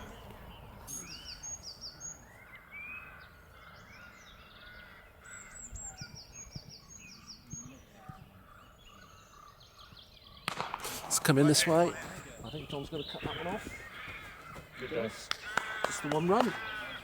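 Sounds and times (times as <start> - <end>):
lower gliding bird calls: 0.0 - 10.6, 11.7 - 17.0
birds chirping: 0.0 - 17.0.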